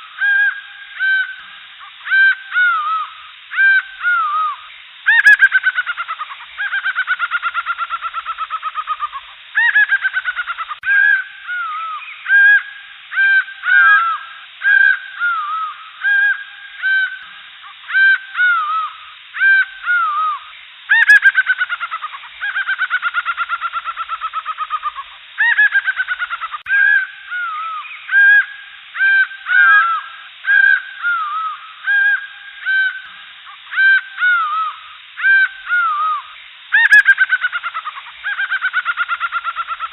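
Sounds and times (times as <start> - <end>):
jungle birds calling: 0.0 - 39.9.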